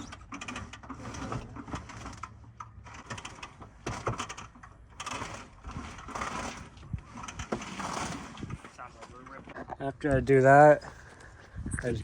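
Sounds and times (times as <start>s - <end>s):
mower engine humming: 0.0s - 10.1s
mower clattering and clicking: 0.0s - 10.2s.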